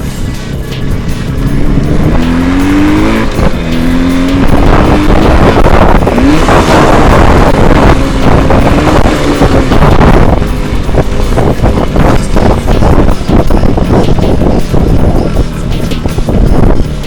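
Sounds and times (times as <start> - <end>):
motorcycle engine revving: 0.0 - 17.0
road noise: 0.0 - 17.0.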